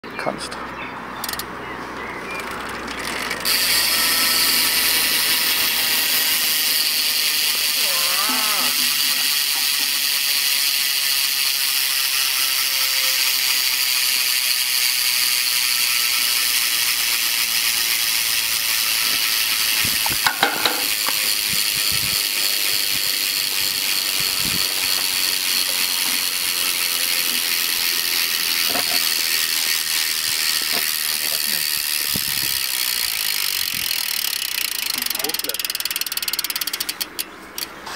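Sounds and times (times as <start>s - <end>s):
bicycle hub ratcheting buzz: 1.1s - 1.6s, 2.3s - 37.8s.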